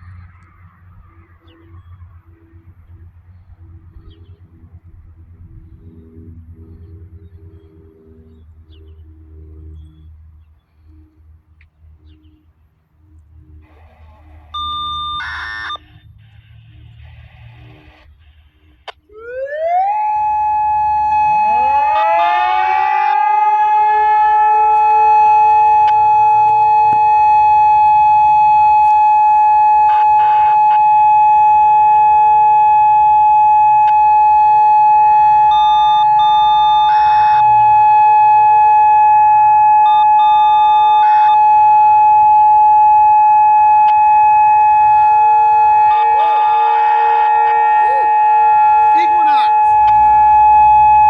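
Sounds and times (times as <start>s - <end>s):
lower siren tone gliding up: 0.0s - 51.0s
warning siren steady tone: 0.0s - 51.0s.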